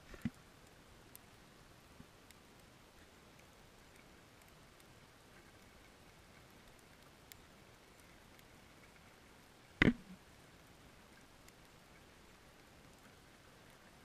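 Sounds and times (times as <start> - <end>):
faint underwater hiss: 0.0 - 14.0
light ticks: 0.0 - 14.0.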